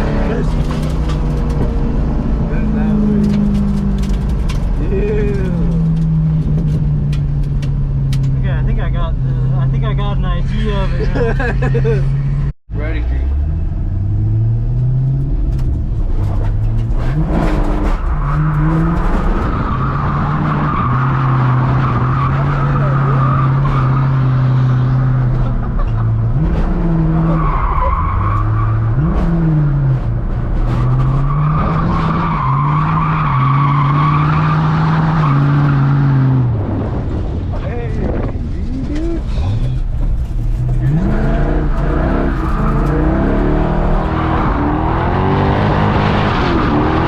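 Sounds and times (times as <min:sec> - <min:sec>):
car engine at high revs: 0:00.0 - 0:10.0, 0:11.0 - 0:47.0.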